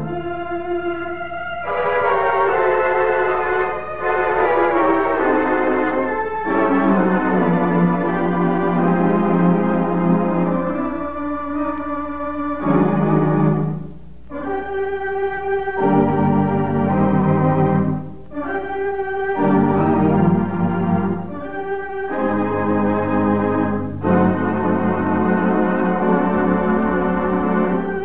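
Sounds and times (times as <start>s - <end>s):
organ playing slow chords: 0.0s - 28.0s.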